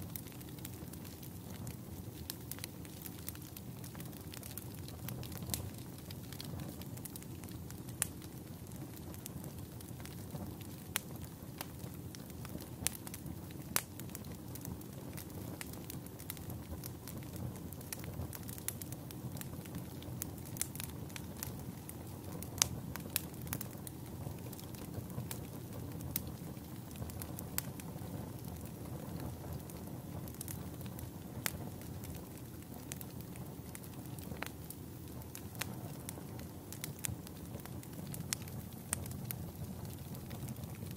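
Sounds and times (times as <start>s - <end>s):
burning wood crackling and popping: 0.0s - 40.9s
rush of flames: 0.0s - 40.9s.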